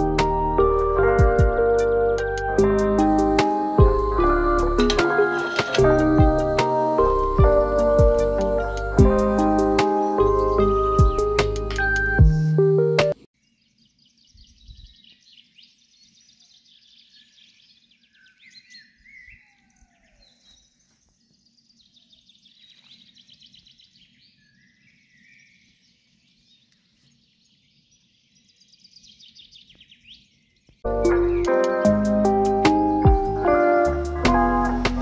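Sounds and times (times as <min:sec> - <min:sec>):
songbirds singing and calling: 0:01.6 - 0:12.6, 0:13.3 - 0:35.0.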